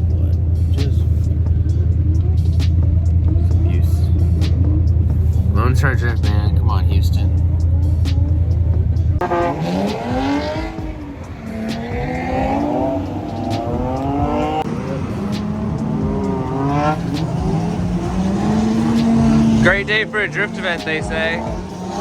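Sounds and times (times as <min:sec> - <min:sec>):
drift car engines revving: 0:00.0 - 0:22.0.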